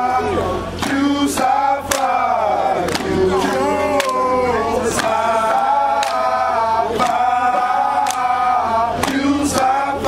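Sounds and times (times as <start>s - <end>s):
men chanting in unison: 0.0s - 10.0s.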